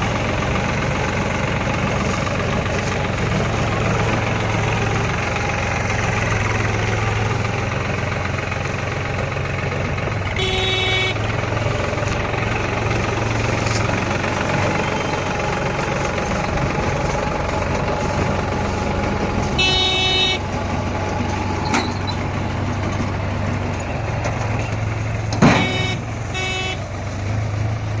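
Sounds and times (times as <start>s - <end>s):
baler mechanical running noise: 0.0s - 28.0s
tractor engine under load: 0.0s - 28.0s.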